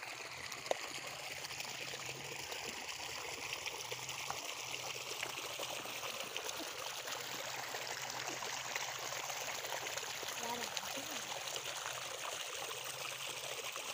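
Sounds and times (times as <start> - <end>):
shallow water trickling: 0.0 - 13.9.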